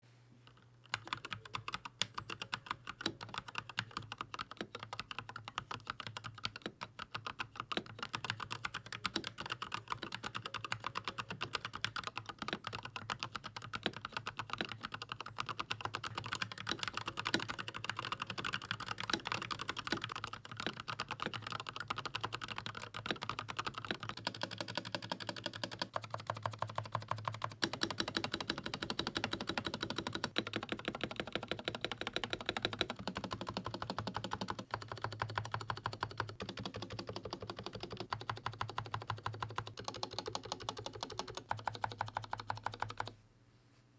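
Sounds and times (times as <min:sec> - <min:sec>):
fast mechanical keyboard typing: 0:00.8 - 0:43.2.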